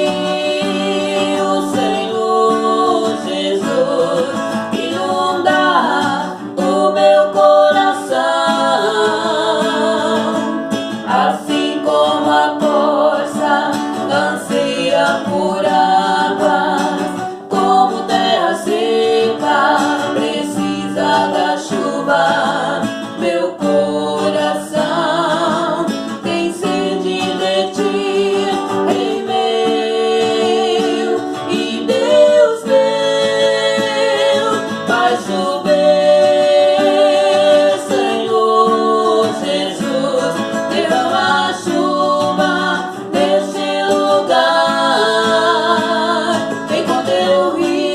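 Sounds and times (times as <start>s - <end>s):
guitar accompaniment: 0.0s - 47.9s
person singing gospel song: 0.0s - 47.9s.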